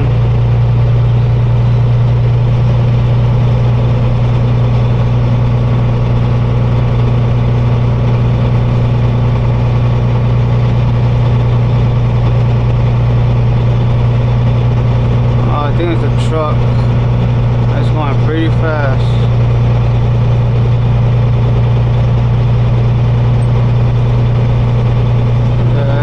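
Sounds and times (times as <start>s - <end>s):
diesel truck engine drone: 0.0s - 26.0s.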